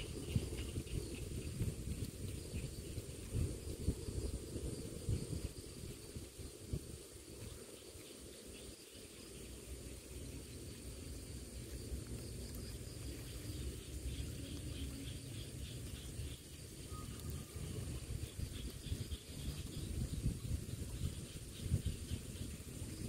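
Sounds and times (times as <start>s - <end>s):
insects trilling: 0.0s - 23.0s
pulsing insect chirp: 0.0s - 23.0s
wind on microphone: 0.0s - 23.0s.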